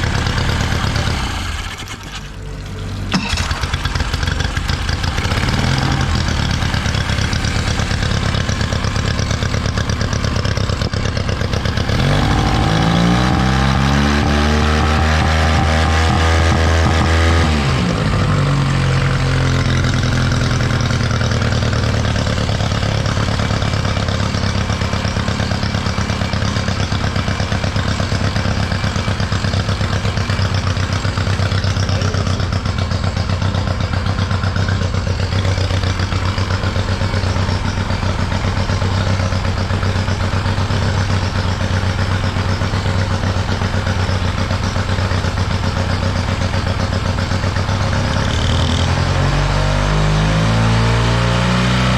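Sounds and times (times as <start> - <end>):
outboard motor idling: 0.0 - 13.7, 18.0 - 48.8.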